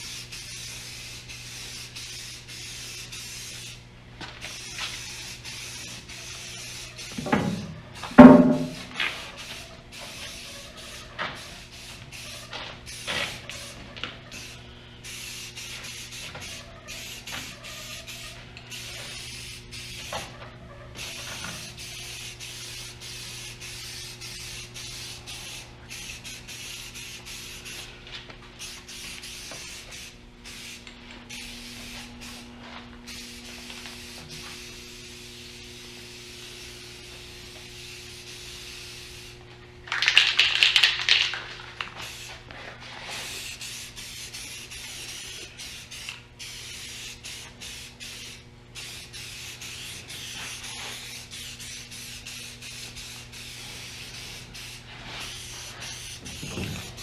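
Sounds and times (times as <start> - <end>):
aerosol spray can hissing: 0.0 - 3.8, 4.4 - 7.4, 8.1 - 20.3, 21.0 - 27.9, 28.6 - 39.4, 40.0 - 42.5, 43.1 - 57.0.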